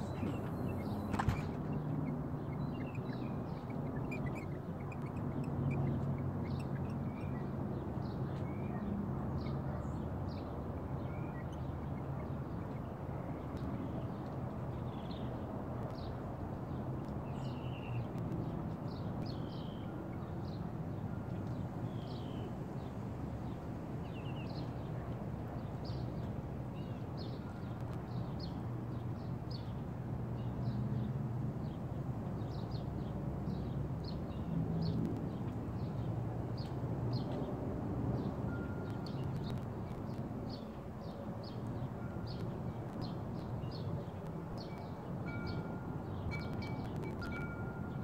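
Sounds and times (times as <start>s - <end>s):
small birds chirping: 0.0s - 29.8s, 38.2s - 48.0s.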